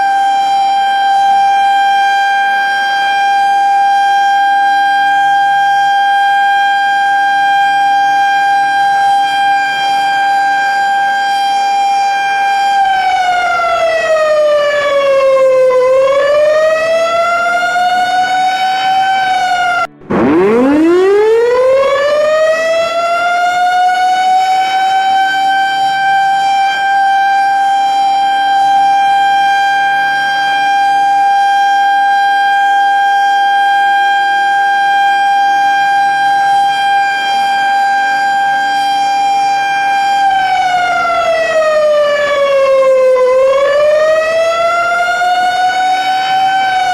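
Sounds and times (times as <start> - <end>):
civil defense siren: 0.0 - 46.9.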